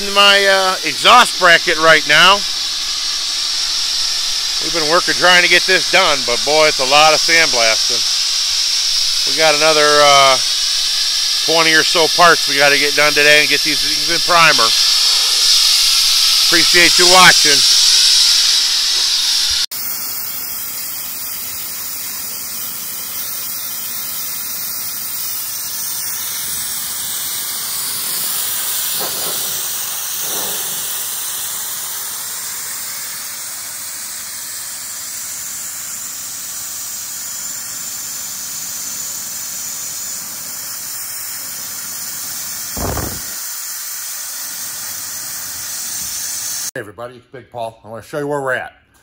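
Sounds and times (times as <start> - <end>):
sandblaster nozzle hissing: 0.0 - 46.7.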